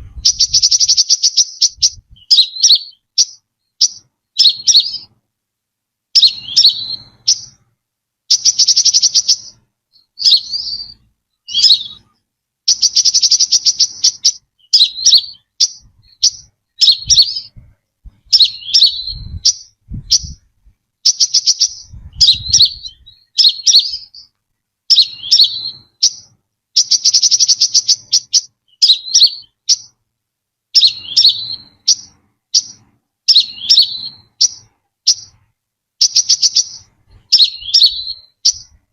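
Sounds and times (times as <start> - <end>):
rapid buzzy bird trills: 0.0 - 5.2, 6.1 - 24.3, 24.9 - 30.0, 30.7 - 38.9
sunbird chirping: 0.0 - 5.2, 6.1 - 30.0, 30.7 - 38.9.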